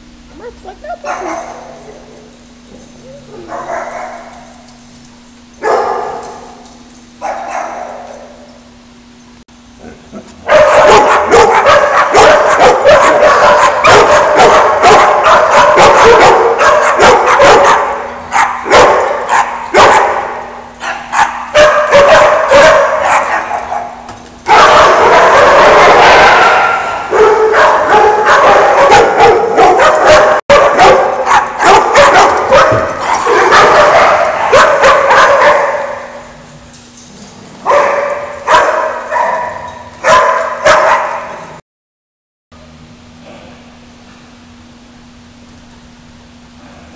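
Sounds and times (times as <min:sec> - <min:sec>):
dogs barking: 0:00.4 - 0:04.7, 0:05.5 - 0:08.5, 0:09.7 - 0:36.6, 0:37.6 - 0:41.6.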